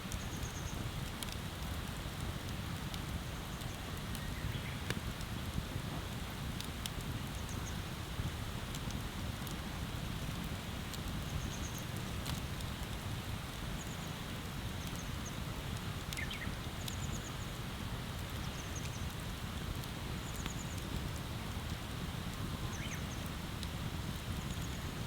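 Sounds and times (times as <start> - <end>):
bonfire crackling and popping: 0.1 - 25.0.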